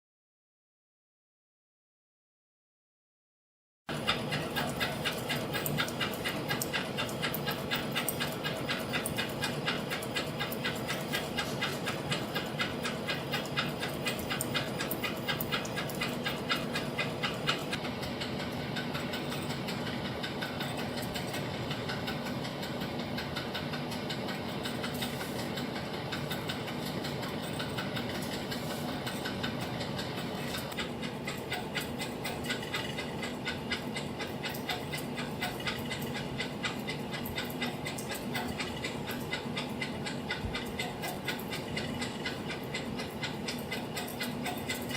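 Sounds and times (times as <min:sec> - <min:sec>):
machine hum: 0:03.9 - 0:44.9
rapid machine clicking: 0:03.9 - 0:44.9.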